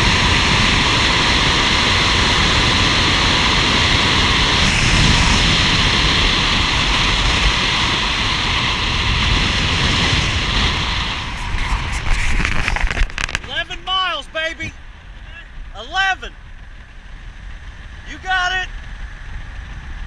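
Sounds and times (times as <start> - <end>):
bicycle road noise: 0.0 - 20.0
wind rushing on microphone: 0.0 - 20.0.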